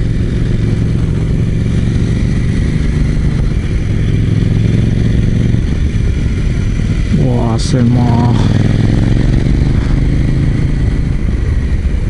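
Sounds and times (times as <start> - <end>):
motorcycle engine pulling steadily: 0.0 - 12.0.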